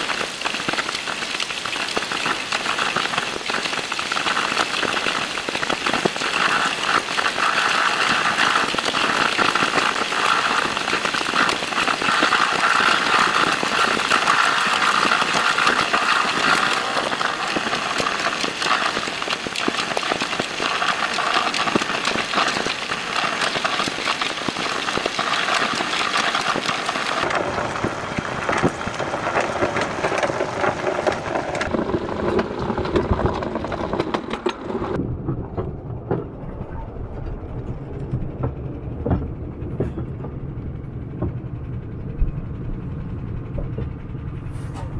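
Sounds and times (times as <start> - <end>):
trolley wheels and engine rattling: 7.5 - 44.9.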